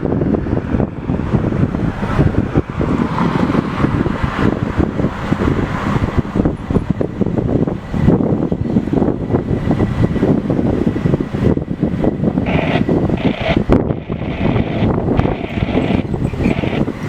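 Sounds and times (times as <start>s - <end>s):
rumbling vehicle noise: 0.0s - 17.0s
wind buffeting microphone: 0.0s - 17.0s.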